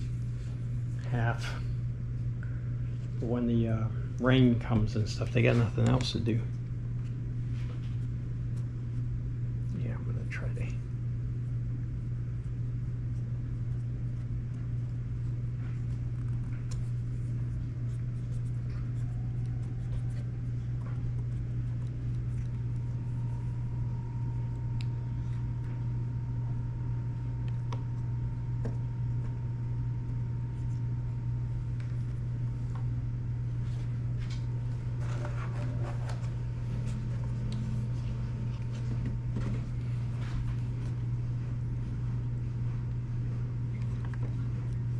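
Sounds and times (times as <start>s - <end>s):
low hum: 0.0s - 44.9s.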